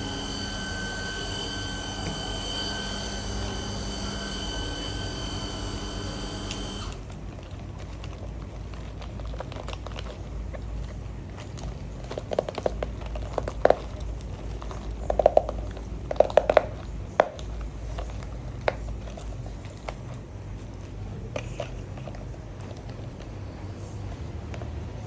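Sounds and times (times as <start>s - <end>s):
low hum of kitchen equipment: 0.0s - 25.0s.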